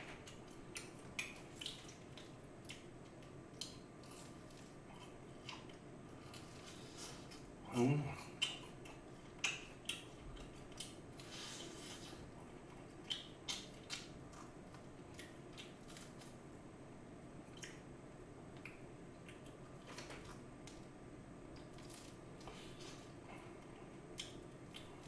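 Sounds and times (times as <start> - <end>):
soft chewing: 0.0 - 25.0.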